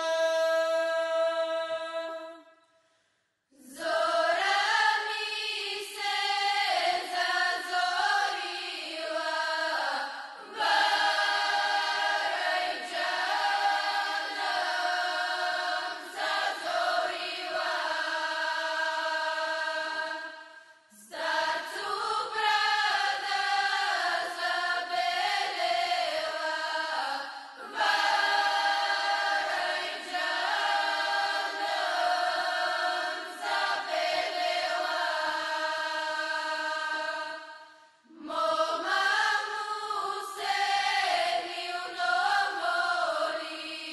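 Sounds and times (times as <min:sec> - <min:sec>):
women singing unaccompanied: 0:03.6 - 0:43.9.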